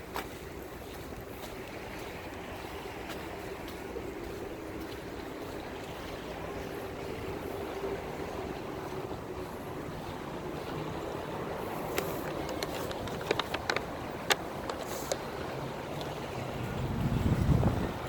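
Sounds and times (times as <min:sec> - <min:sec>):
water: 0:00.0 - 0:18.0
wind: 0:00.0 - 0:18.0.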